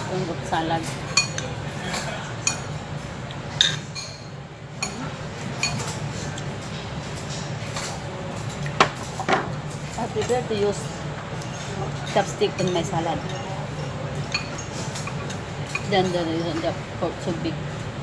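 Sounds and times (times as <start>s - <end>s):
low background hum: 0.0s - 18.0s
utensils clinking on plates: 0.0s - 18.0s.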